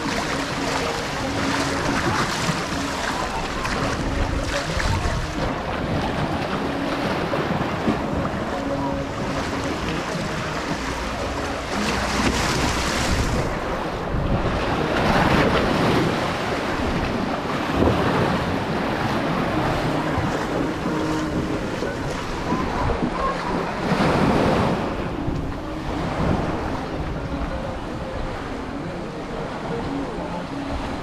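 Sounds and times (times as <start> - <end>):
wind buffeting microphone: 0.0 - 29.5
surf washing onto beach: 0.0 - 31.0.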